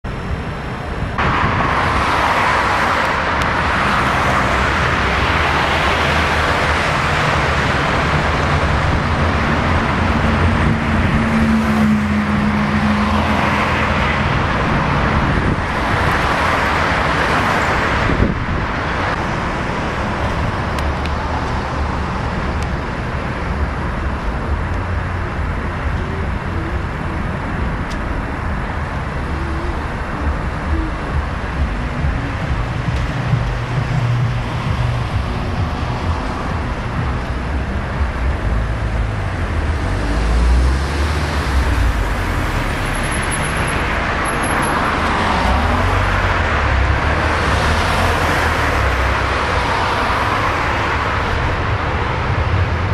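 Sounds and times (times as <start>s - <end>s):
city street traffic: 0.0s - 52.9s
vehicle engine hum: 0.0s - 52.9s.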